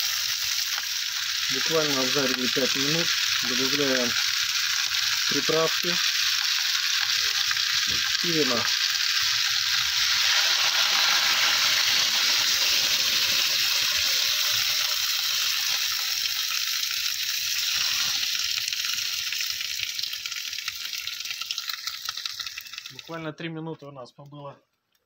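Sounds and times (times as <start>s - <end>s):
wine sizzling in hot pan: 0.0s - 23.2s.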